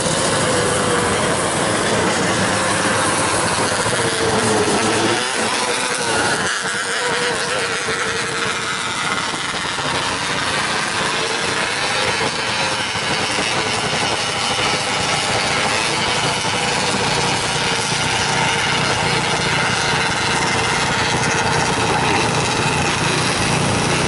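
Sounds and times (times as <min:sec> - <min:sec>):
small racing car engines: 0:00.0 - 0:24.0.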